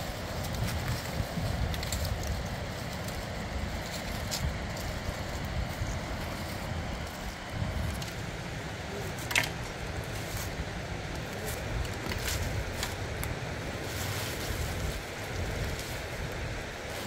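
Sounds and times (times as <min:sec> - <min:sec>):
dry twigs crackling and snapping: 0:00.0 - 0:17.0
wind rumble on microphone: 0:00.0 - 0:17.0.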